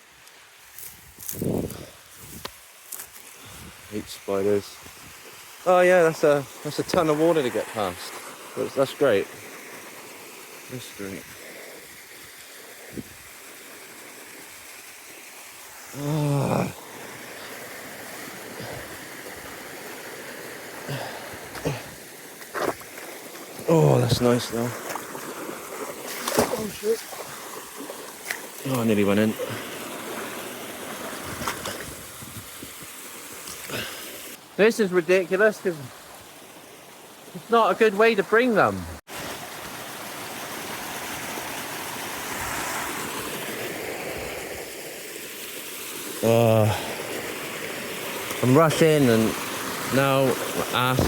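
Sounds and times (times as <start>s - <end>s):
river water rushing: 3.4s - 32.3s, 32.9s - 51.0s.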